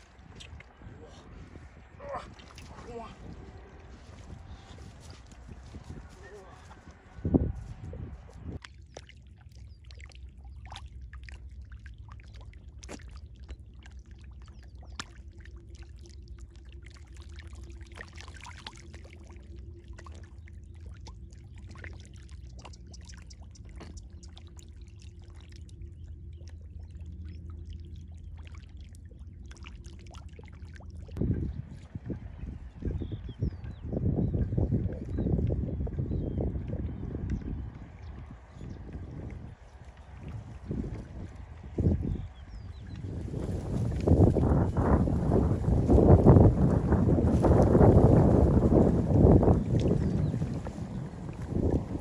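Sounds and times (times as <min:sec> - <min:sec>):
steady low rumble: 0:00.0 - 0:52.0
water splashing and sloshing: 0:00.0 - 0:52.0.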